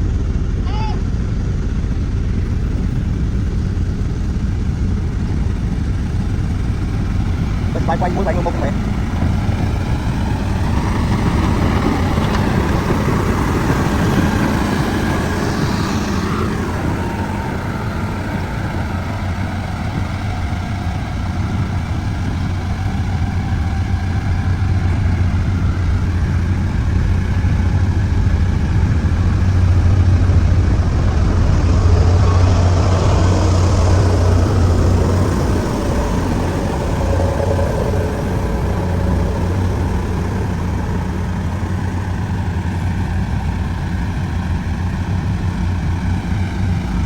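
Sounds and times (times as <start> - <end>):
heavy machine engine humming: 0.0 - 47.0.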